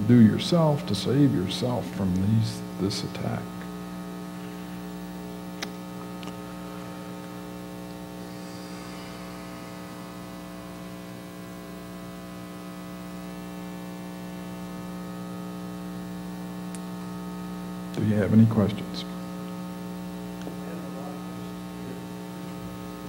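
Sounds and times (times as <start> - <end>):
buzzy mains hum: 0.0 - 23.0.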